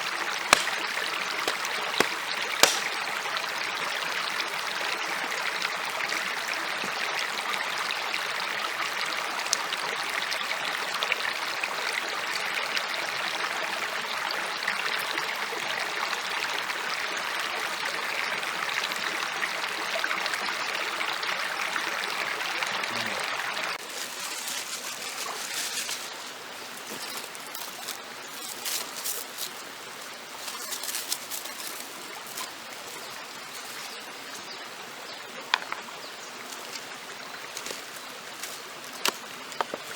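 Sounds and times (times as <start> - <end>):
flowing stream water: 0.0 - 39.9.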